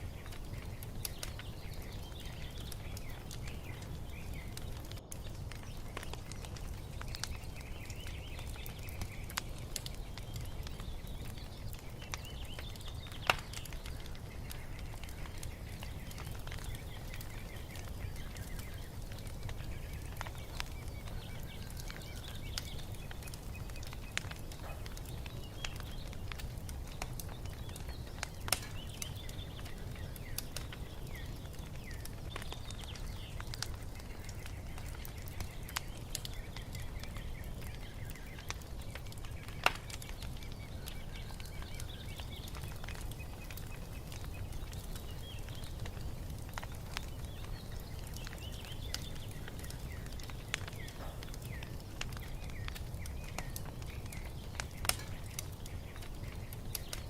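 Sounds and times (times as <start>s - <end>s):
songbirds chirping: 0.0s - 57.0s
wood fire crackling and popping: 0.0s - 57.0s.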